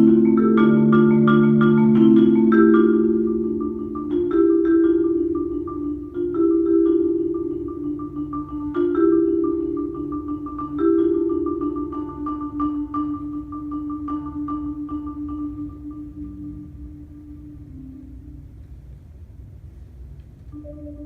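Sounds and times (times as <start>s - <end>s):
solo marimba playing: 0.0s - 18.6s, 20.5s - 21.0s.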